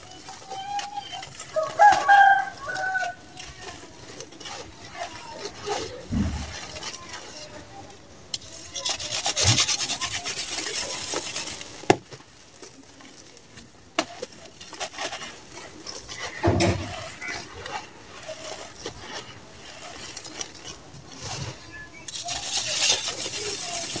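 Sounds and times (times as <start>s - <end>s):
dry cement balls crunching: 0.0s - 24.0s
gritty grains pattering down: 0.0s - 24.0s.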